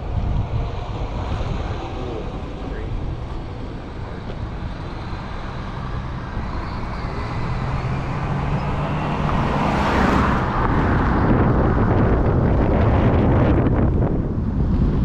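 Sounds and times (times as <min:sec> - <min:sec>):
tyre and engine rumble: 0:00.0 - 0:15.0
wind on microphone: 0:00.0 - 0:15.0.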